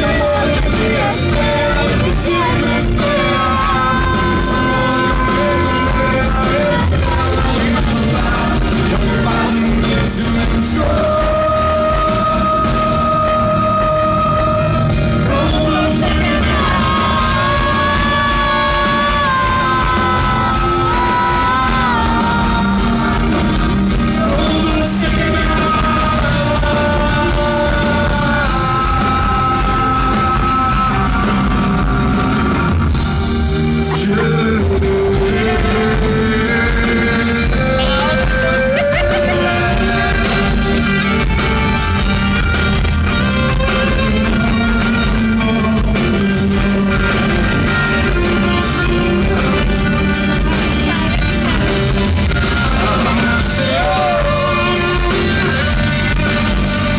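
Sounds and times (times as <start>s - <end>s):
bass: 0.0s - 56.9s
drums: 0.0s - 56.9s
guitars: 0.0s - 56.9s
rock band playing live: 0.0s - 56.9s.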